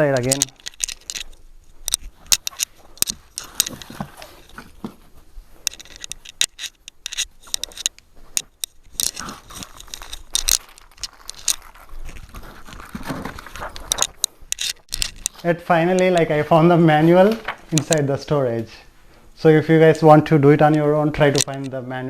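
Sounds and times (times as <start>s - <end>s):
clicks and knocks of handling parts: 0.0s - 5.0s, 5.6s - 16.5s, 17.2s - 18.1s, 20.7s - 21.8s
packaging rustling: 0.2s - 18.1s.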